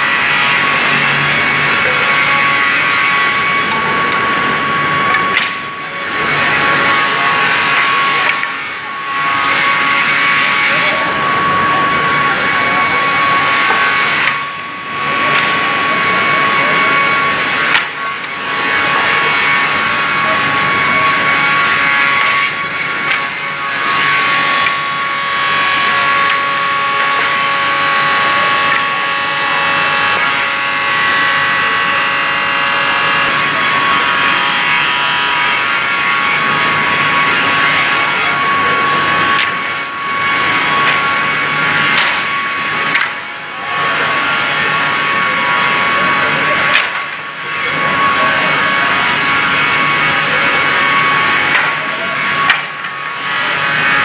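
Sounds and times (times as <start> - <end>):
rip saw cutting timber: 5.0 - 54.0.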